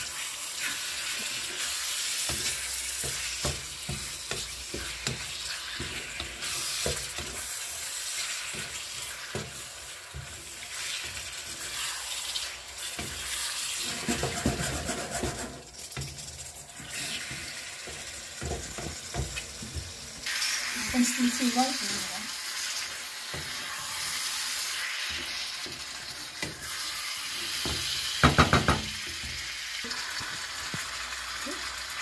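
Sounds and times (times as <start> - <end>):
wooden spatula scraping a pan: 0.0 - 28.0
food sizzling in a frying pan: 0.0 - 32.0.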